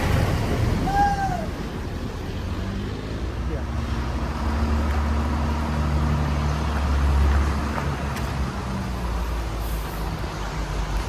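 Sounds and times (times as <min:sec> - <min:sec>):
bus engine droning: 0:00.0 - 0:11.0
road noise: 0:00.0 - 0:11.0.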